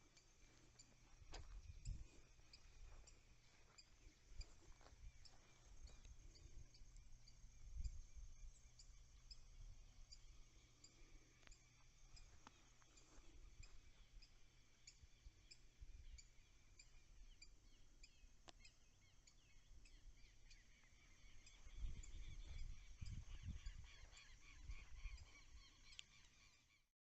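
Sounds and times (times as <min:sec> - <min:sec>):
birds calling: 0:00.0 - 0:26.8
crickets and insects droning: 0:00.0 - 0:26.8.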